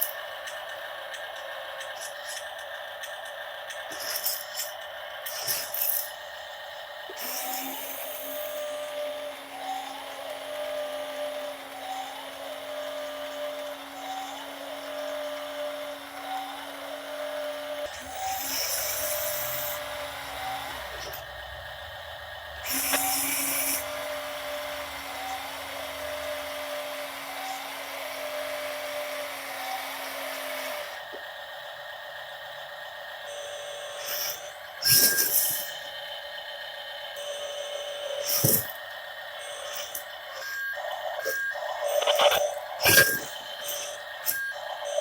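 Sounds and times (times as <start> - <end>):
small electric motor whining: 0.0 - 45.0.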